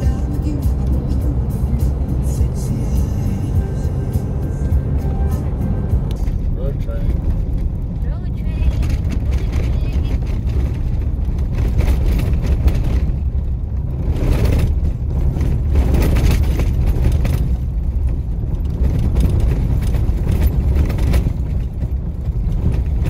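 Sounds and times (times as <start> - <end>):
car engine: 0.0 - 23.0
tyre and road noise: 0.0 - 23.0.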